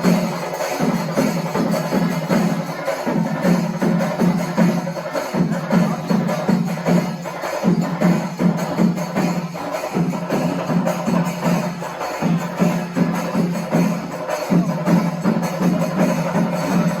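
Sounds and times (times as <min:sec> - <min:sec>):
fast percussion music: 0:00.0 - 0:17.0.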